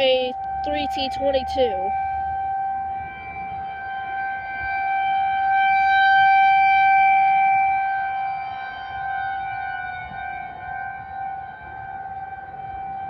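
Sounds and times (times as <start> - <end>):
outdoor warning siren steady tone: 0.0 - 13.0.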